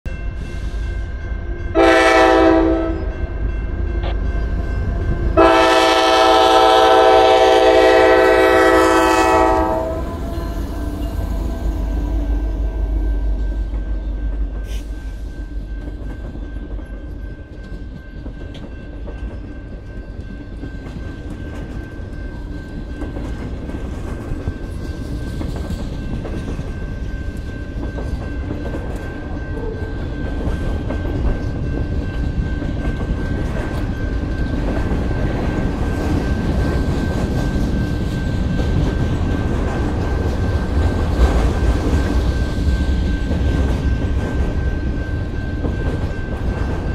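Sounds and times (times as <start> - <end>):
freight train wheels clattering: 0.1 - 46.9.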